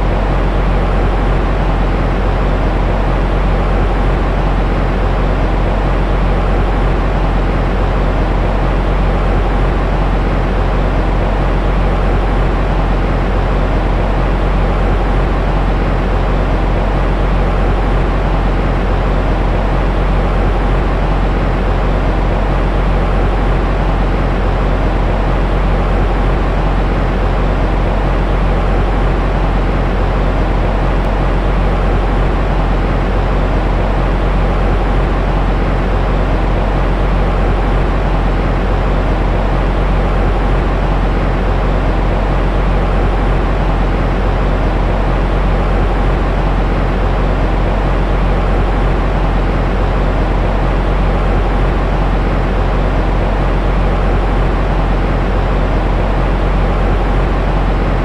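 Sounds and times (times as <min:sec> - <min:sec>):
deep white noise rush: 0:00.0 - 0:58.0
faint steady hum: 0:00.0 - 0:58.0.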